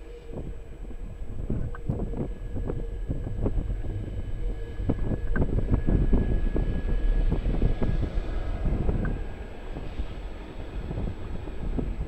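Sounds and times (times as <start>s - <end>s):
train passing with low rumble: 0.0s - 12.0s.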